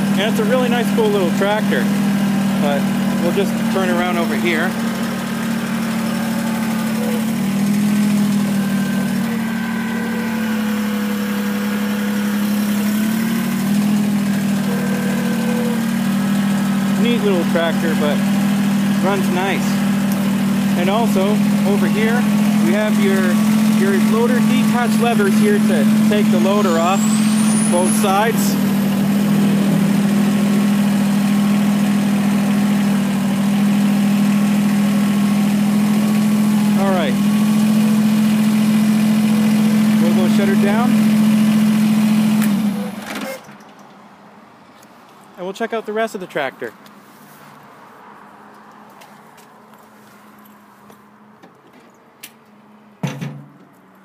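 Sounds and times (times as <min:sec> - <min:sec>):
tractor diesel engine running: 0:00.0 - 0:43.6.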